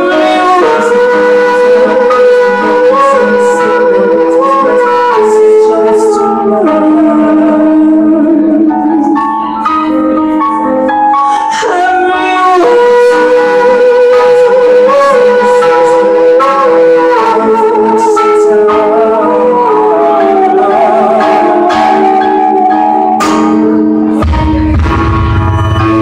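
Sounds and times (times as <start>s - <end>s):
man singing into a microphone: 0.0s - 9.9s, 11.1s - 23.2s
keyboards holding sustained chords: 0.0s - 26.0s
live amplified band music: 0.0s - 26.0s.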